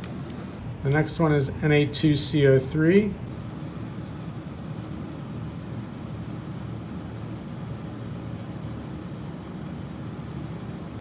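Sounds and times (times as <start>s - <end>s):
low room rumble and hiss: 0.0s - 11.0s.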